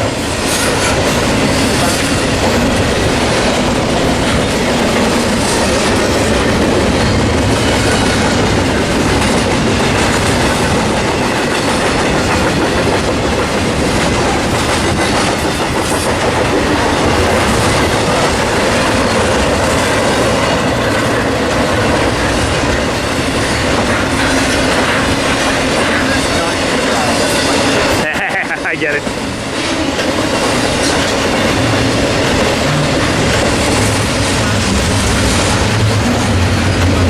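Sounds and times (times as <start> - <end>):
train cars rolling on rails: 0.0 - 37.0.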